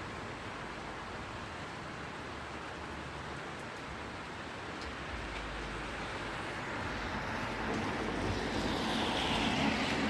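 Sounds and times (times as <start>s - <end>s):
car tyres on wet road: 0.0s - 10.0s
rain hissing: 0.0s - 10.0s.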